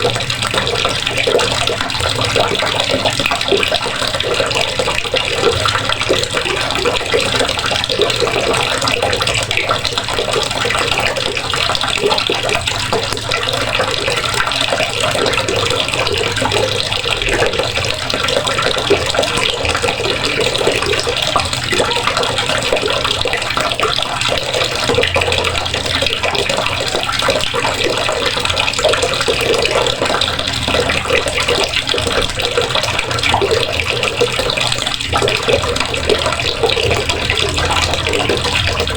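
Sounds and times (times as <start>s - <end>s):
water running from a faucet: 0.0s - 38.9s.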